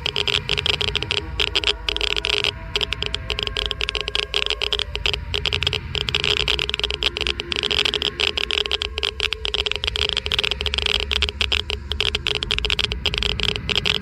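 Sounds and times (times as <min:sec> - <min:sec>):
geiger counter clicking: 0:00.0 - 0:14.0
steady hum: 0:00.0 - 0:14.0.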